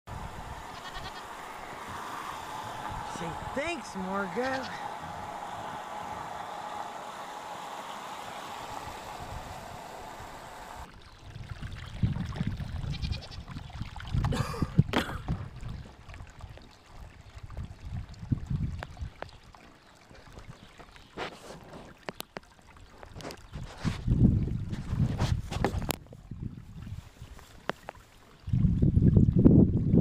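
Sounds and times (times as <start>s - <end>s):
wind rumble on microphone: 0.1s - 6.8s, 8.3s - 19.6s, 22.9s - 30.0s
hose water splashing into pool: 0.1s - 29.3s.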